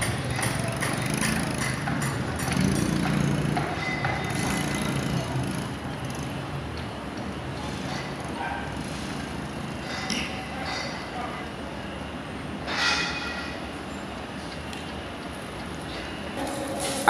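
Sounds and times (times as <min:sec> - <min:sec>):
heavy machine engine running: 0:00.0 - 0:13.4, 0:15.3 - 0:17.0
construction site noise: 0:00.0 - 0:17.0.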